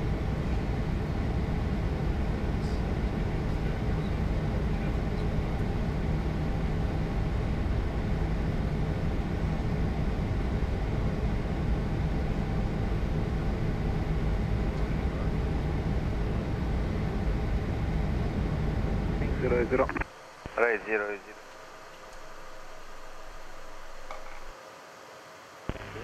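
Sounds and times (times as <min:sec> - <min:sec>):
aircraft cabin rumble: 0:00.0 - 0:24.5
faint steady hum: 0:00.0 - 0:26.0.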